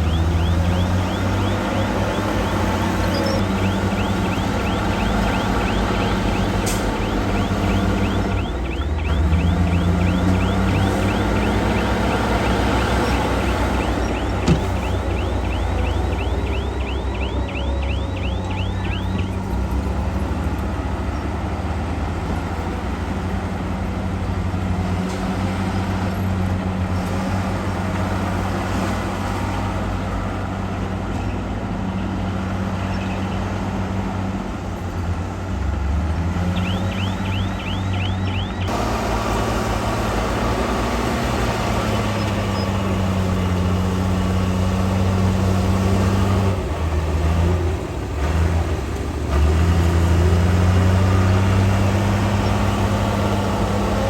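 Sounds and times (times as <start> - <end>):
diesel engine of heavy machinery: 0.0 - 54.0.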